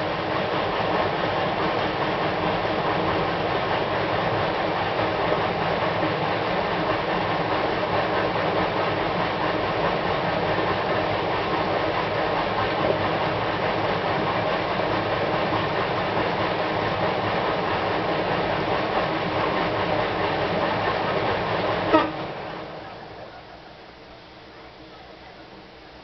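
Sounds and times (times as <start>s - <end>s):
washing machine running: 0.0s - 26.0s.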